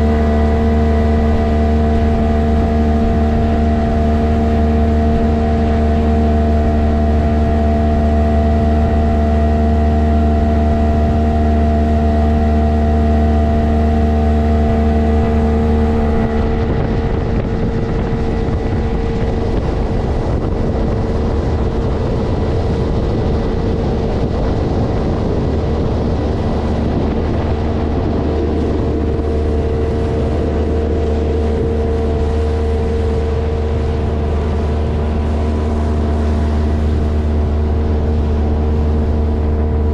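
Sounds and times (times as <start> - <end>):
motorboat engine running: 0.0 - 39.9
rushing wind and water: 0.0 - 39.9.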